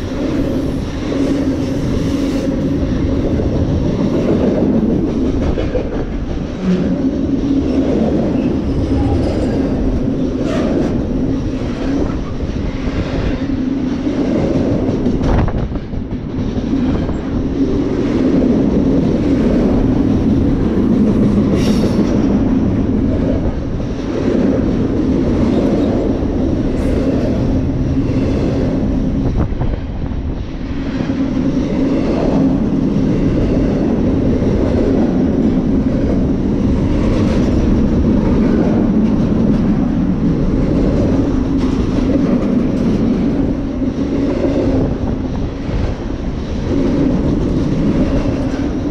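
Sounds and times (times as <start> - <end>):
freight train cars rolling: 0.0 - 48.9
train clicks and clanks: 0.0 - 48.9.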